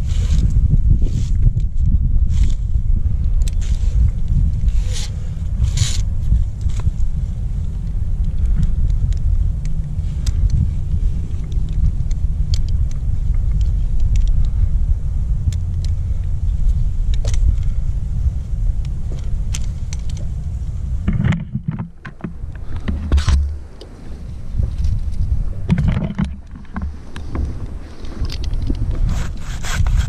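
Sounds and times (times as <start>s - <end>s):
low wind rumble: 0.0s - 30.0s.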